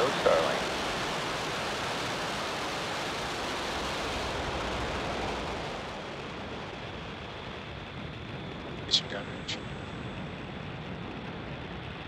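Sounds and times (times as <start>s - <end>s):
rocket engines rumbling: 0.0s - 12.0s.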